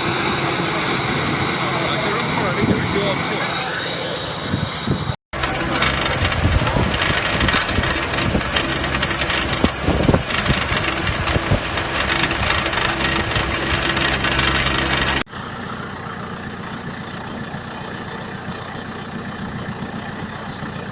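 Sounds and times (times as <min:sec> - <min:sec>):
harvester clatter: 0:00.0 - 0:20.9
tractor engine running: 0:00.0 - 0:20.9.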